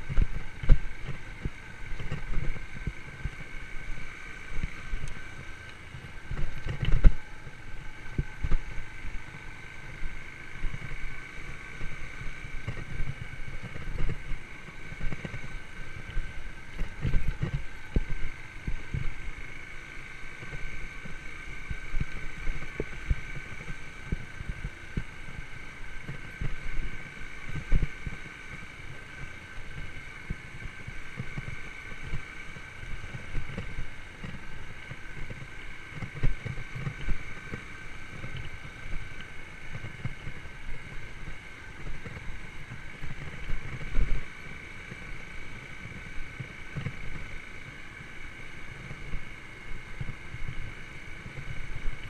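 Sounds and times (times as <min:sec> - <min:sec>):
motorcycle engine running: 0:00.0 - 0:52.0
wind rumbling on microphone: 0:00.0 - 0:52.0.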